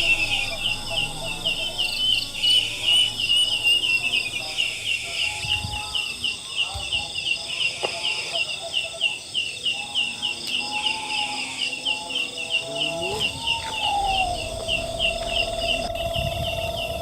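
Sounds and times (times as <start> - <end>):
wavering whistle-like tones: 0.0 - 7.6, 10.0 - 17.0
insects chirping: 0.0 - 17.0.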